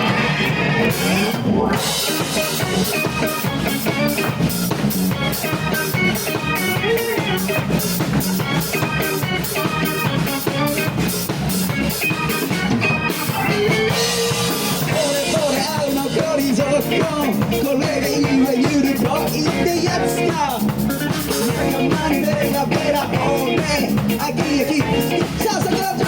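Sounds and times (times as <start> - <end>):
drum kit fast beat: 0.0 - 26.0
rock band playing: 0.0 - 26.0.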